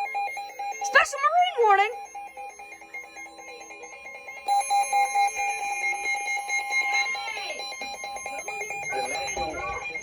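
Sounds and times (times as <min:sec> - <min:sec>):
electronic alarm beeping tone: 0:00.0 - 0:10.0.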